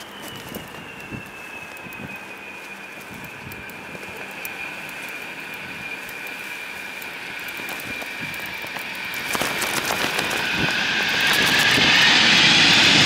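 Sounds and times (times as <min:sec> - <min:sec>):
jet engines whining and roaring: 0:00.0 - 0:13.0.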